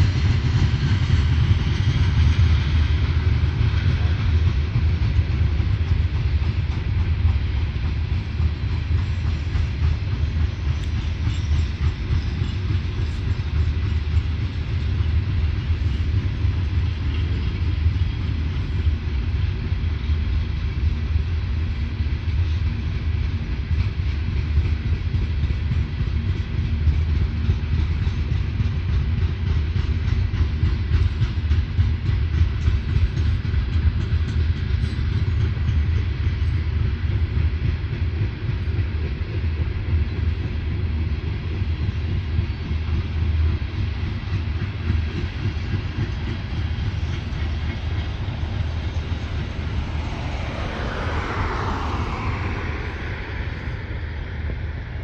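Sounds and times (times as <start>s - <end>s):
wheel clatter on rails: 0.0s - 19.2s, 23.3s - 53.9s
freight train rumbling past: 0.0s - 55.0s.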